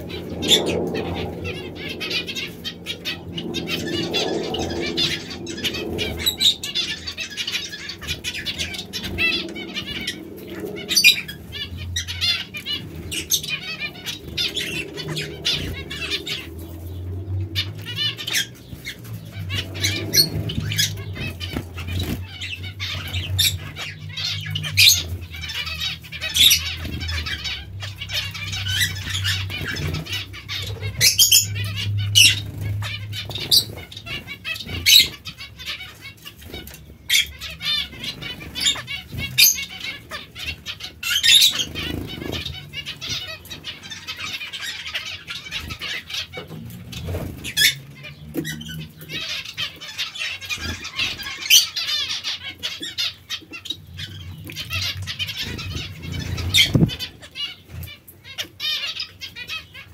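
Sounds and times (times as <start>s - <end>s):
finches chirping: 0.0s - 59.9s
low steady hum: 0.0s - 59.9s
wings fluttering: 0.0s - 59.9s.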